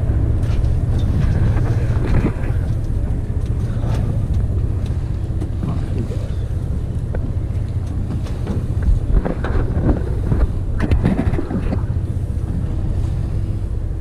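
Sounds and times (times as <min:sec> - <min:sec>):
boat engine rumbling: 0:00.0 - 0:14.0
wind buffeting microphone: 0:00.0 - 0:14.0.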